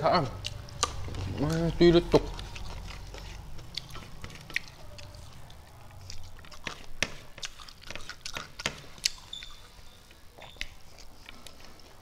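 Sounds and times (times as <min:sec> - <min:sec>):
person chewing with mouth open: 0:00.2 - 0:12.0.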